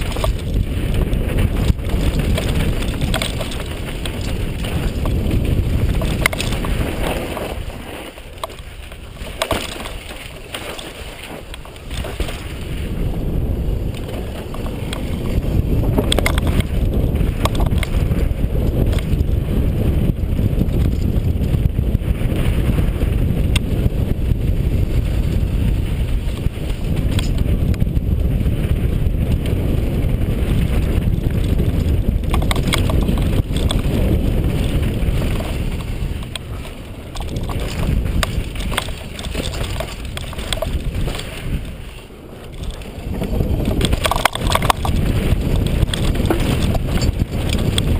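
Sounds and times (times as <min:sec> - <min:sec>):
bike chain and frame rattling: 0:00.0 - 0:47.9
tyres on loose dirt and rock: 0:00.0 - 0:47.9
wind buffeting camera: 0:00.0 - 0:47.9.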